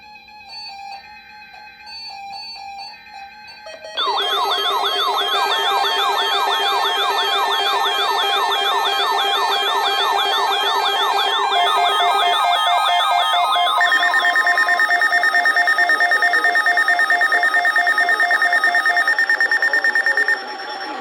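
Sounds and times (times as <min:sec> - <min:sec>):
rapid steady beeping: 0:04.0 - 0:21.0
siren-like alert wails: 0:04.0 - 0:21.0.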